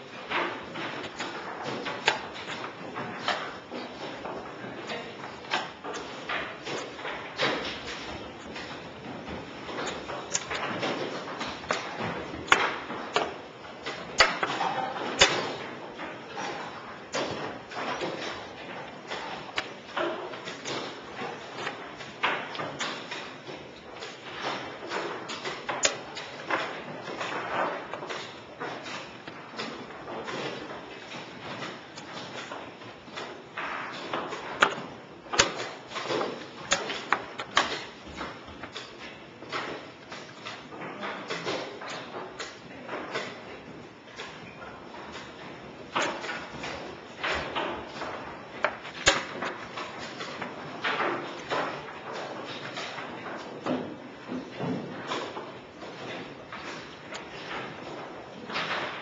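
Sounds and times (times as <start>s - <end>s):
room noise: 0.0s - 59.0s.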